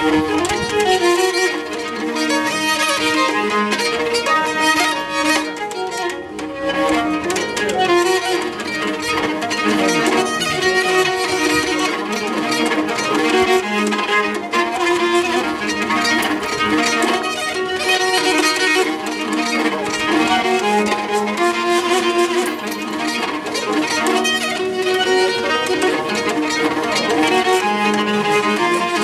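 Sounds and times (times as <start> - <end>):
keyed fiddle bowed tune: 0.0 - 29.0.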